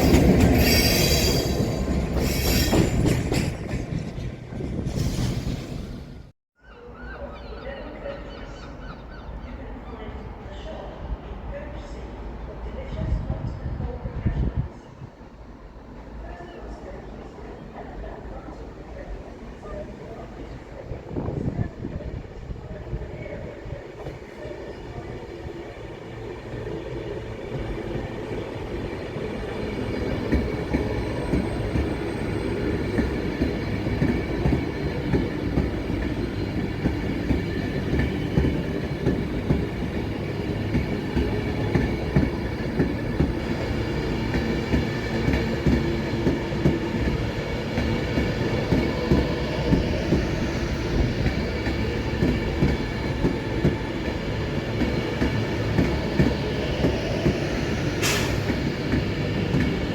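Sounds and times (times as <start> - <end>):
train rumbling past: 0.0 - 6.3, 9.7 - 59.9.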